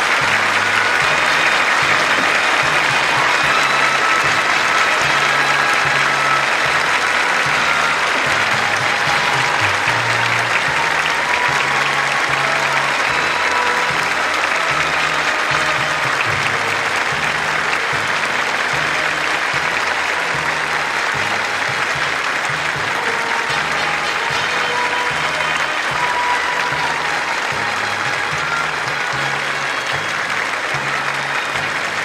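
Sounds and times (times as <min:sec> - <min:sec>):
crowd applauding: 0:00.0 - 0:32.0.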